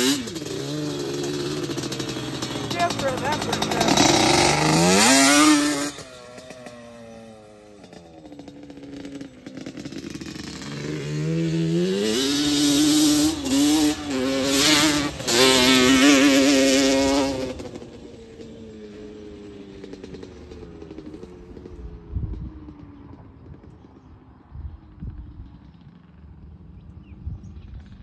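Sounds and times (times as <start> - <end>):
two-stroke engine revving: 0.0 - 26.8.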